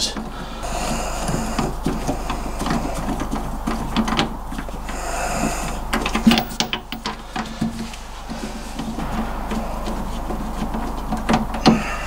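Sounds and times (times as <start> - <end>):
brief held whine: 0.6 - 12.0.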